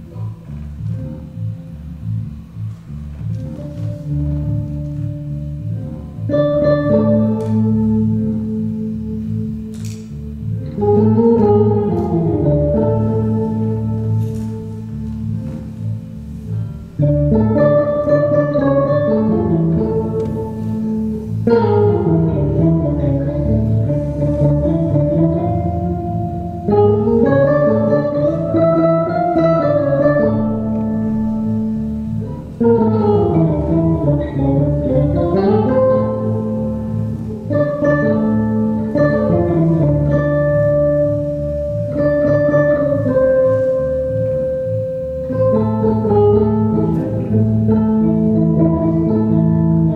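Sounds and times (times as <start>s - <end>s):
electric bass: 0.0s - 49.9s.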